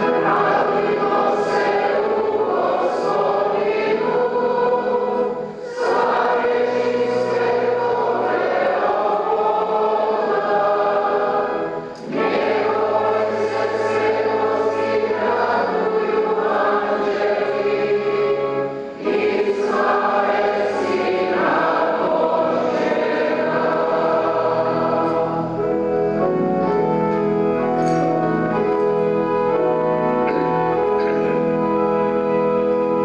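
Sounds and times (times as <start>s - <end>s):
choir singing a hymn: 0.0s - 33.0s
held accompaniment chords: 0.0s - 33.0s.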